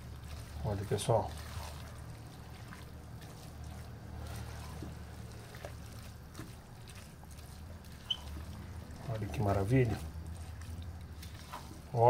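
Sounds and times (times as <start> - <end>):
spatula stirring wet filling: 0.0 - 12.0.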